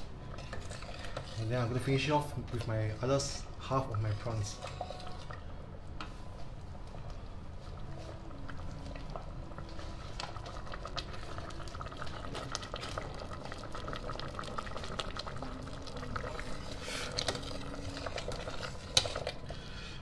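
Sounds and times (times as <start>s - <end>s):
soup bubbling in a pot: 0.0s - 20.0s
ladle moving through soup: 0.2s - 20.0s.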